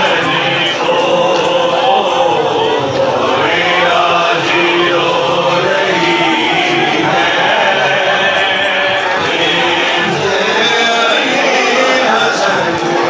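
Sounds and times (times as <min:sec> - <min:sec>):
crowd of men chanting: 0:00.0 - 0:13.0.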